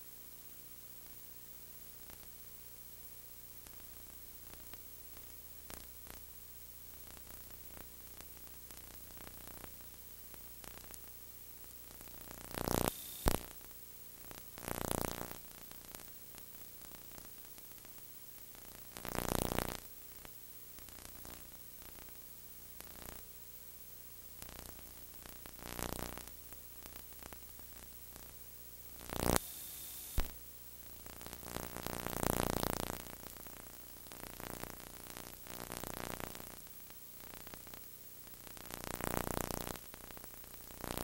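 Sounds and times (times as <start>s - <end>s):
background hiss and hum: 0.0s - 41.0s.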